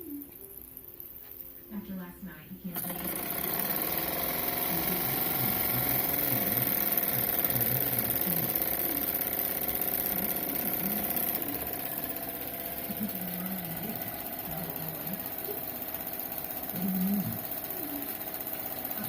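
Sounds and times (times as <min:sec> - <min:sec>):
steam engine mechanical clatter: 0:02.8 - 0:19.0.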